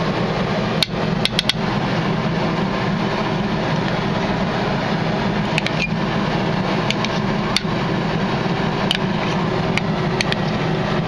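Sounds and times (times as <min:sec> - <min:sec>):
loud steady hum: 0:00.0 - 0:11.0.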